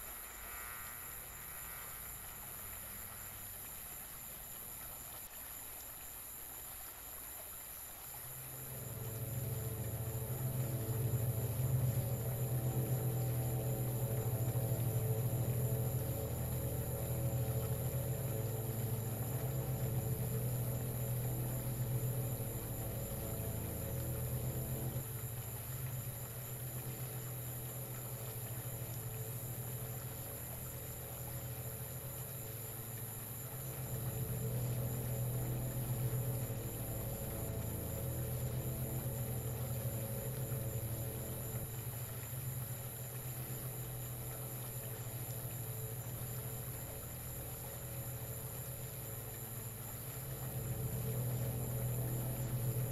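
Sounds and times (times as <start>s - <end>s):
high hiss: 0.0s - 52.9s
low electrical hum: 0.0s - 52.9s.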